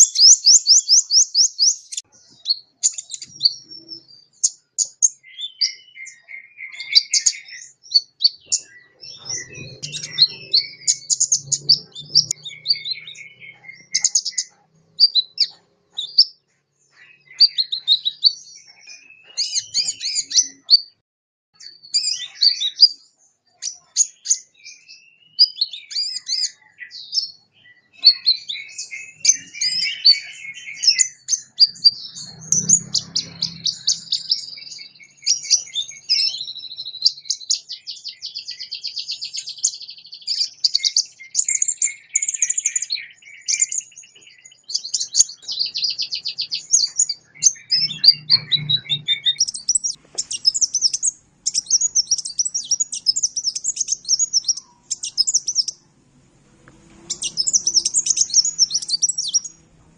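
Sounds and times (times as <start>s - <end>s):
sunbird chirping and trilling: 0.0s - 21.0s, 21.6s - 55.9s, 57.0s - 59.9s.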